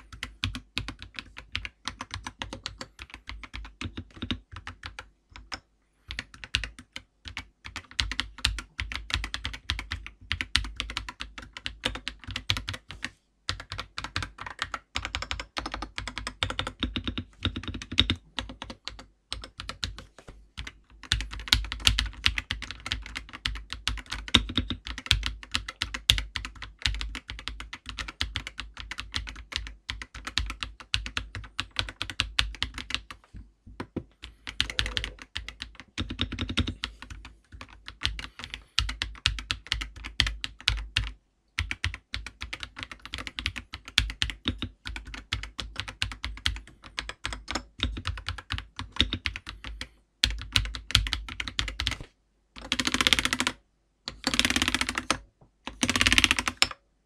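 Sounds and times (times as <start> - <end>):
mechanical keyboard typing: 0.0 - 33.2, 33.8 - 52.0, 52.6 - 56.8.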